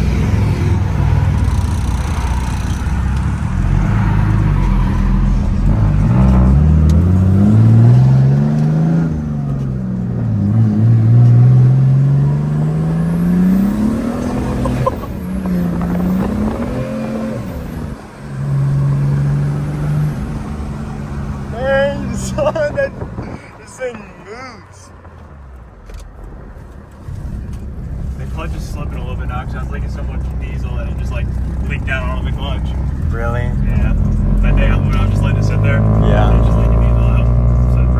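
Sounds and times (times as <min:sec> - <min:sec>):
diesel engine accelerating: 0:00.0 - 0:37.9.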